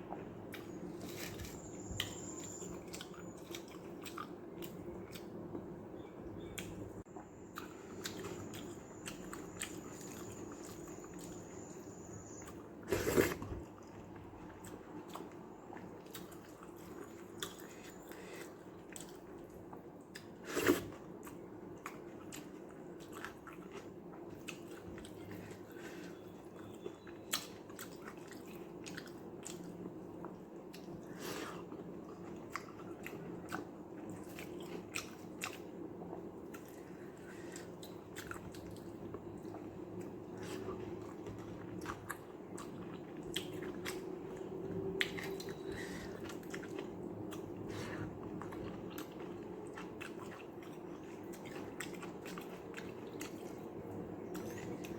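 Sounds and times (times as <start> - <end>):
person chewing food: 0.0 - 5.8, 6.4 - 11.7, 12.3 - 54.9.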